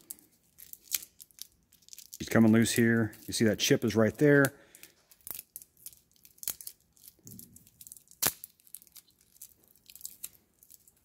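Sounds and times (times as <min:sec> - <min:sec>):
tape crackling and tearing: 0:00.0 - 0:11.0.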